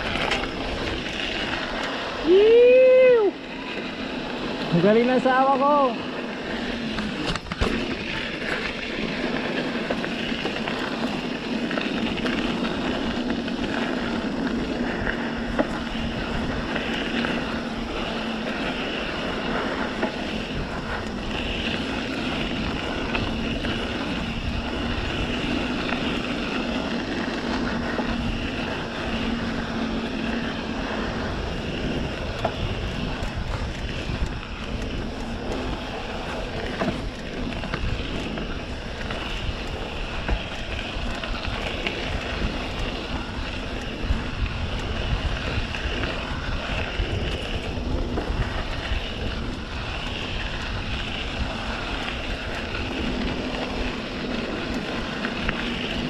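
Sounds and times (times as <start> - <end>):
tyres rumbling on dirt: 0.0 - 56.0
wind on microphone: 0.0 - 56.0.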